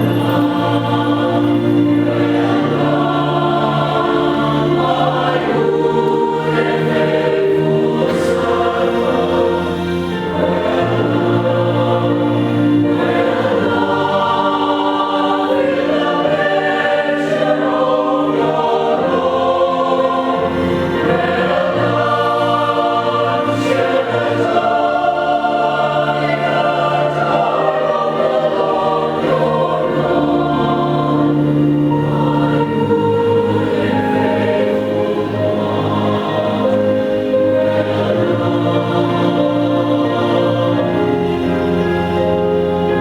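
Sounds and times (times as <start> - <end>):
church choir singing: 0.0 - 43.0.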